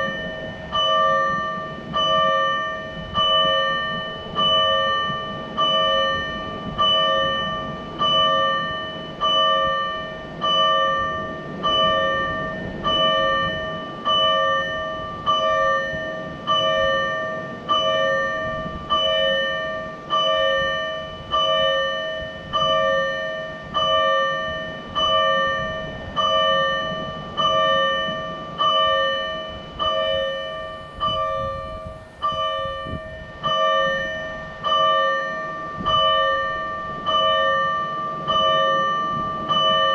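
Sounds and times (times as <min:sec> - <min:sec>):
electronic alarm bell clanging: 0:00.0 - 0:39.9.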